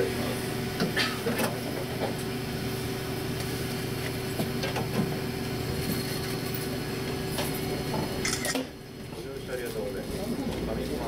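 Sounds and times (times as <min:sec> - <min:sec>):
railcar mechanical hum with held tone: 0:00.0 - 0:11.0.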